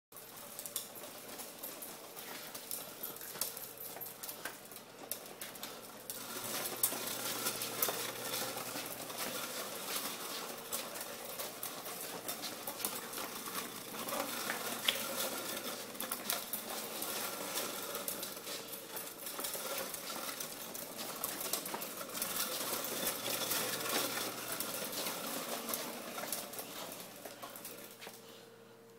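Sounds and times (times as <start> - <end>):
toy wagon wheels rattling: 0.2 - 28.2.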